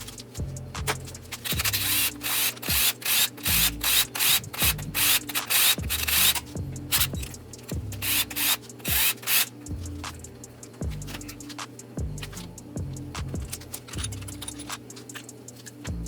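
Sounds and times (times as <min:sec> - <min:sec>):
background music with bass: 0:00.0 - 0:02.8, 0:03.5 - 0:09.0, 0:09.6 - 0:15.0
rhythmic scraping strokes: 0:00.0 - 0:16.0.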